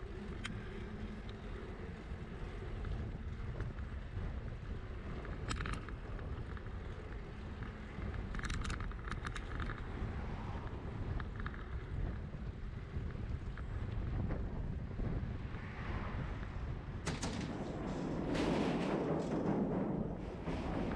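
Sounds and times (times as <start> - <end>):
bicycle rumbling over pavement: 0.0 - 20.9
wind buffeting microphone: 0.0 - 20.9.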